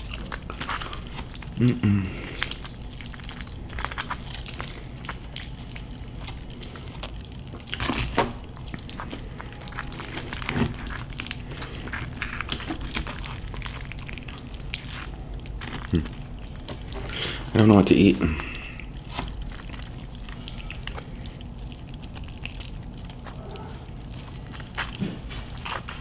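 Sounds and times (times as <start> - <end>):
wet chewing: 0.0 - 26.0.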